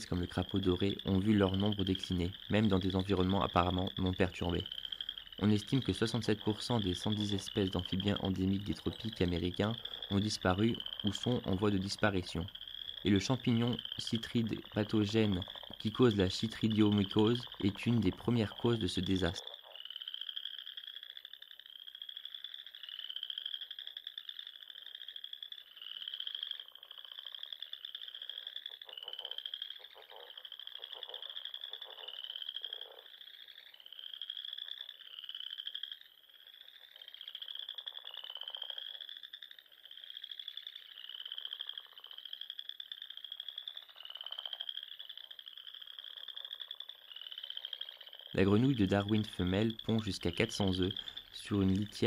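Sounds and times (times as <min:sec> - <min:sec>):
frogs chirping: 0:00.0 - 0:52.0
frogs pulsing trills: 0:00.0 - 0:52.0.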